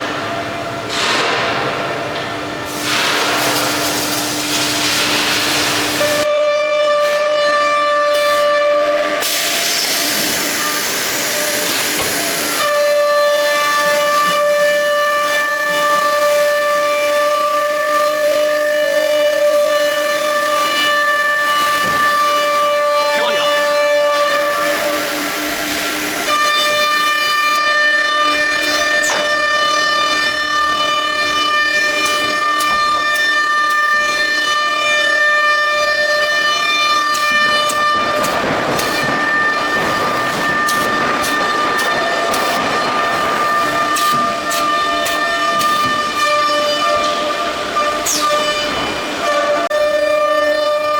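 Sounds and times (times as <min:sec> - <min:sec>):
router high whine: 0:09.5 - 0:50.9.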